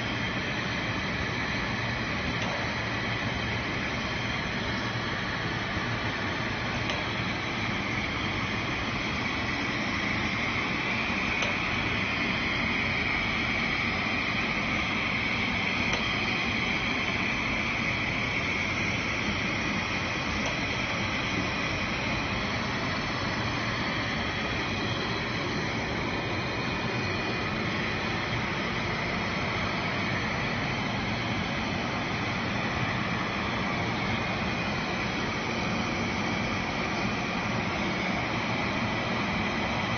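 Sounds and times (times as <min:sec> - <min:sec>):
machine hum and hiss: 0:00.0 - 0:39.9.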